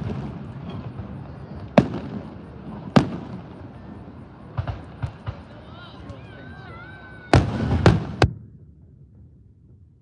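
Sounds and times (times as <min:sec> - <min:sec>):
fireworks bursting with echo: 0:00.0 - 0:09.9.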